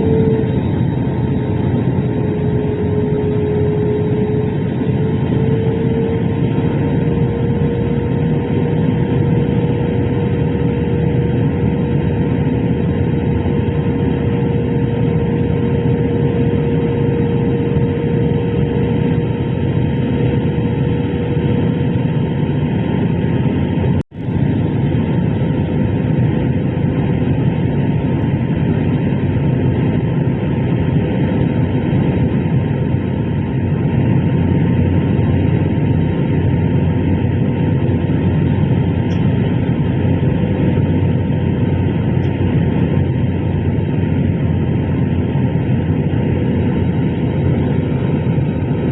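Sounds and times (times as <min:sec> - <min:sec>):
airliner cabin engine roar: 0:00.0 - 0:48.9.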